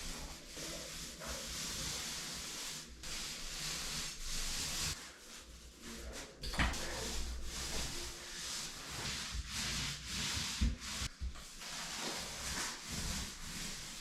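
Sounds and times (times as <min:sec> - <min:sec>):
paint roller on wall: 0:00.0 - 0:14.0.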